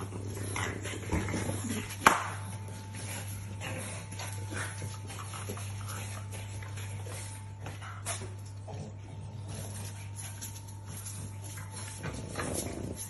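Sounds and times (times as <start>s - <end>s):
puppies scuffling on tile floor: 0.0s - 13.0s
steady low hum: 0.0s - 13.0s.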